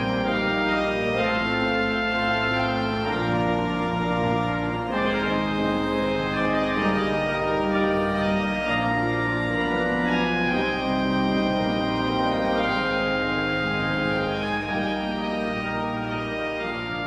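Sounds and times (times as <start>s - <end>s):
church organ chords: 0.0s - 17.0s.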